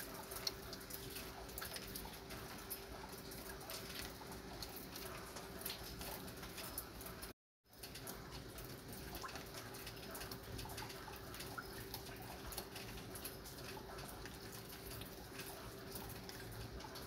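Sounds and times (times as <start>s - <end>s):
light rain drops ticking: 0.0s - 17.0s
soft rain hiss: 0.0s - 17.0s.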